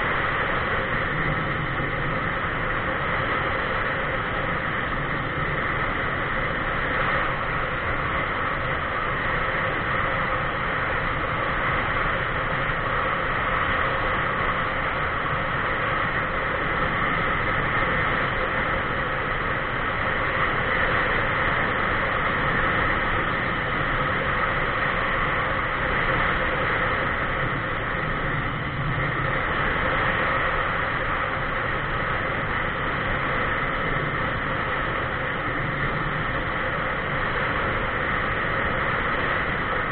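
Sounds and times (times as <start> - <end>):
faint steady hum: 0.0 - 39.9
wind and road noise: 0.0 - 39.9.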